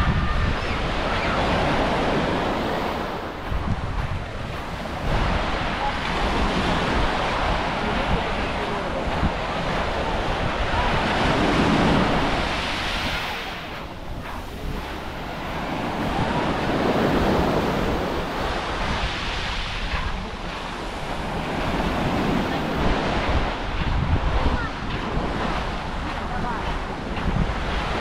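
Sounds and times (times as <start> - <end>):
small waves breaking on shore: 0.0 - 28.0
wind rumbling on microphone: 0.0 - 28.0.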